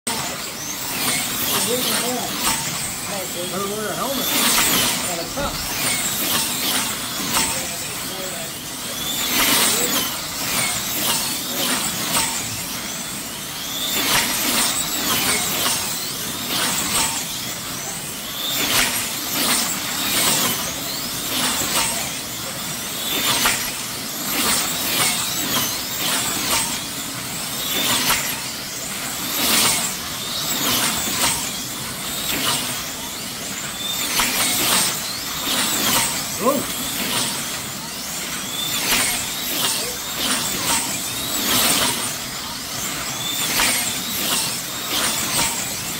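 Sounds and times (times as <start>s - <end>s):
slot car motors whining: 0.1s - 45.9s.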